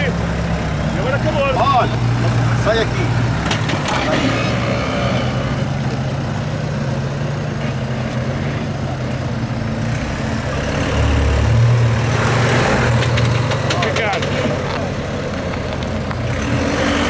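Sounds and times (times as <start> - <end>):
off-road vehicle engine at low revs: 0.0 - 17.0.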